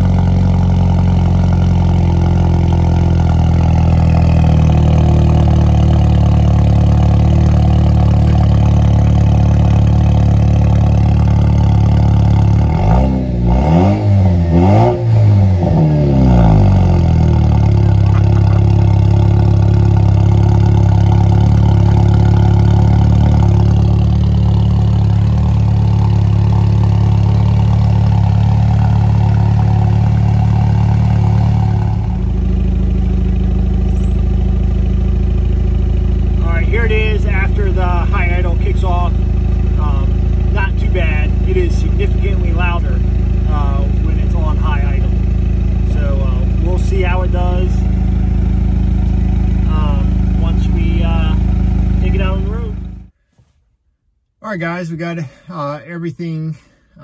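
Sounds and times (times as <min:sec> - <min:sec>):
car engine idling and revving: 0:00.0 - 0:53.2.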